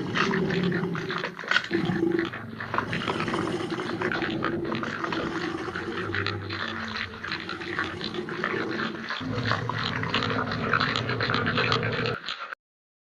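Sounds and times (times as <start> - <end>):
dinosaur growl: 0.0 - 12.6.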